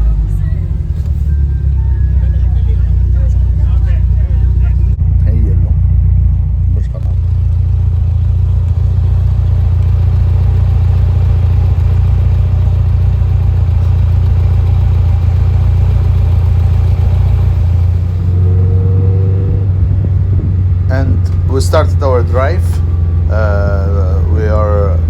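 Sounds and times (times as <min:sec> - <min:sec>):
car engine running with low rumble: 0:00.0 - 0:25.0.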